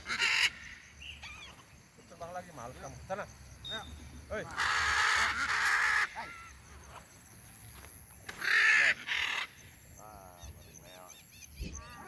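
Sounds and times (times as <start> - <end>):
bird harsh raspy calls: 0.0 - 2.2, 3.2 - 7.1, 8.3 - 12.0.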